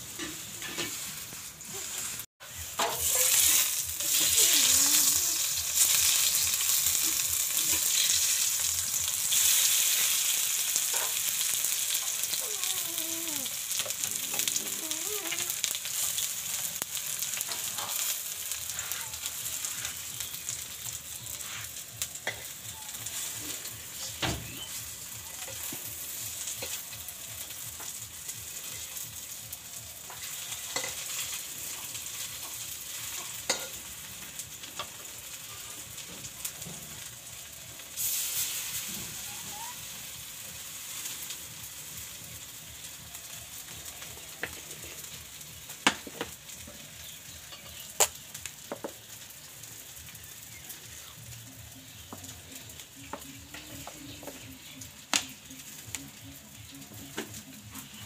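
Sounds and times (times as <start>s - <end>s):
fritters sizzling in hot oil: 0.0s - 58.0s.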